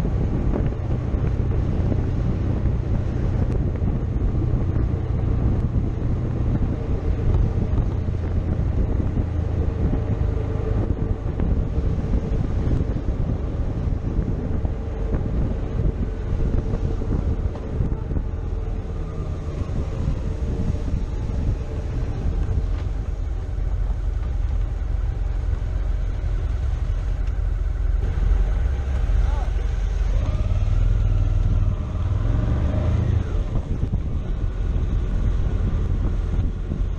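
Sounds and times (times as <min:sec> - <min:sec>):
wind on microphone: 0:00.0 - 0:36.9.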